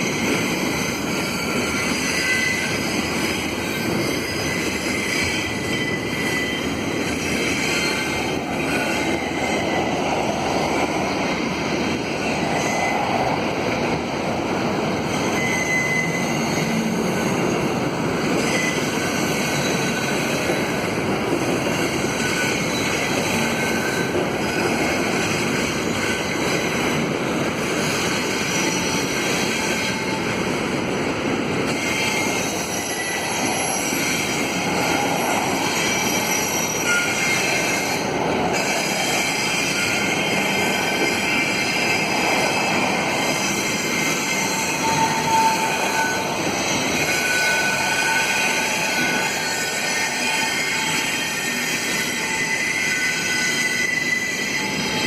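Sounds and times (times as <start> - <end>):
train rumble: 0.0 - 15.4, 16.0 - 55.0
train wheels squealing on rails: 0.0 - 55.0.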